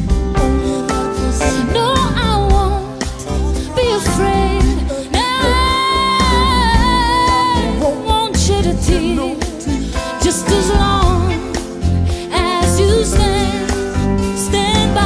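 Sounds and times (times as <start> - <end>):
low bass beat: 0.0 - 15.0
person singing pop song: 0.0 - 15.0.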